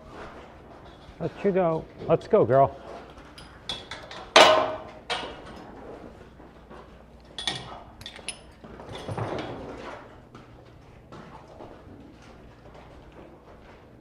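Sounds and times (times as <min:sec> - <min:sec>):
knocks and rattling clatter: 0:00.0 - 0:14.0.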